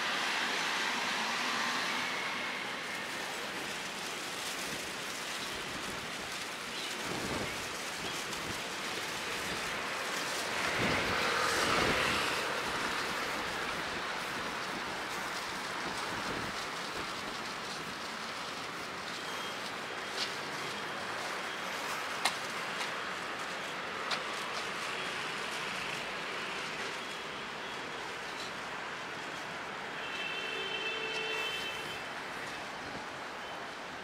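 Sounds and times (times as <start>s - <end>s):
city street noise hiss: 0.0s - 34.0s.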